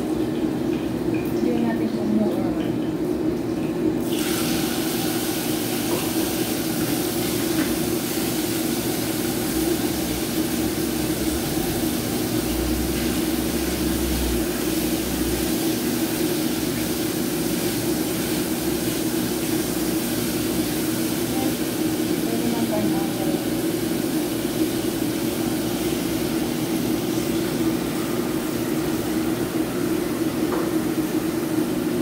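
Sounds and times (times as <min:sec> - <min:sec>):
extractor fan humming: 0:00.0 - 0:32.0
food frying in a wok: 0:00.0 - 0:32.0.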